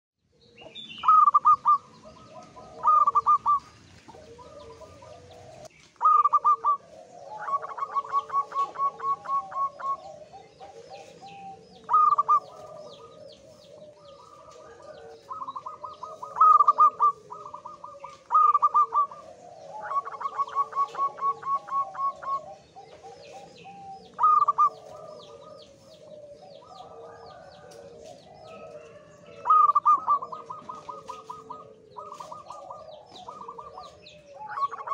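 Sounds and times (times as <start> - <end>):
dove cooing song: 0.2 - 34.9.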